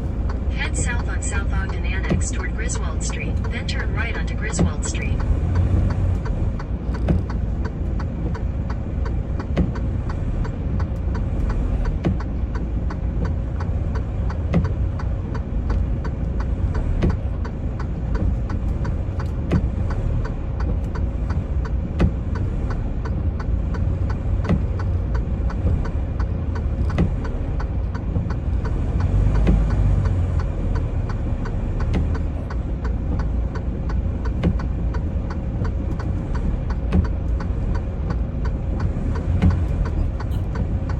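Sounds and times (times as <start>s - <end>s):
sharp clicks: 0.0s - 40.9s
truck engine rumble inside cab: 0.0s - 40.9s.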